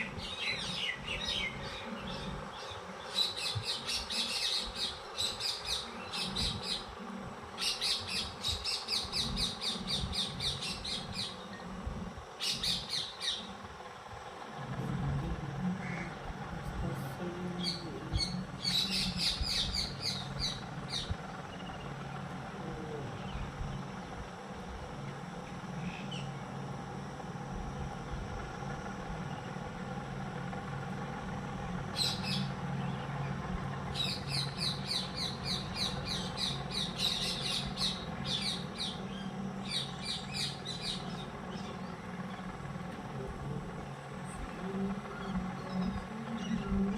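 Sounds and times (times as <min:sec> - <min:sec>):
small birds chirping: 0:00.0 - 0:27.2, 0:27.9 - 0:46.9
steady low hum: 0:00.0 - 0:46.9.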